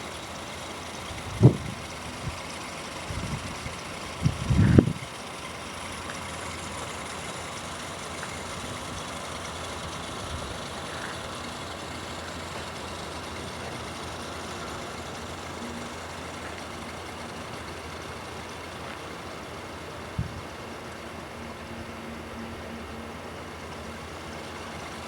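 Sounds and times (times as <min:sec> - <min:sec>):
steady rumbling: 0:00.0 - 0:21.4.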